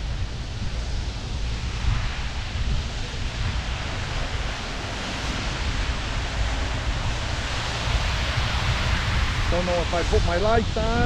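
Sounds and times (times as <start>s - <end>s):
low buffeting rumble: 0.0s - 11.0s
wind rushing over microphone: 0.0s - 11.0s.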